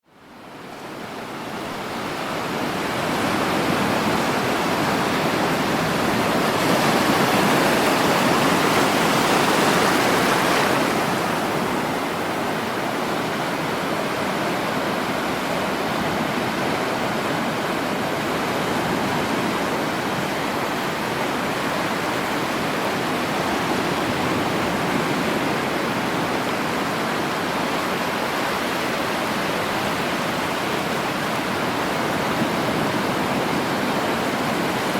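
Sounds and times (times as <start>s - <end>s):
sea waves surging: 0.2s - 34.9s.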